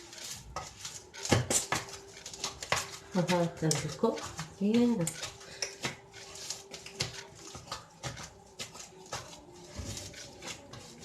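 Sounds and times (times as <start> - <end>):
hands kneading dough: 0.0 - 11.0.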